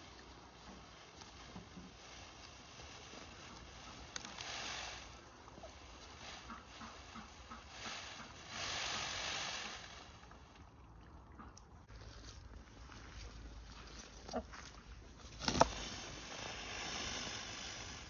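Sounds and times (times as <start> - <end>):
peacock tail feathers rustling: 0.0 - 10.7, 12.0 - 18.0.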